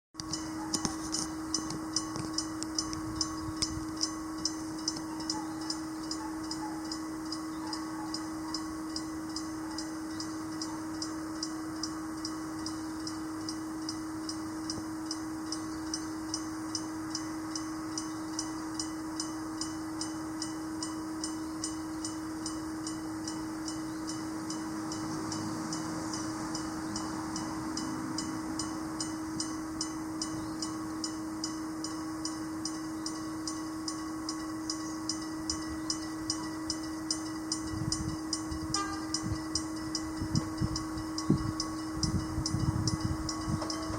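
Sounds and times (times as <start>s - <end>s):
level crossing bell ringing: 0.2s - 43.9s
train rumble: 0.2s - 43.9s.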